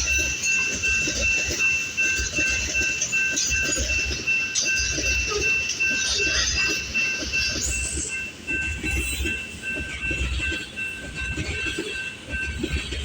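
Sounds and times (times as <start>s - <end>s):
crossing bell dinging: 0.0s - 13.0s
train wheels clattering on rails: 0.0s - 13.0s.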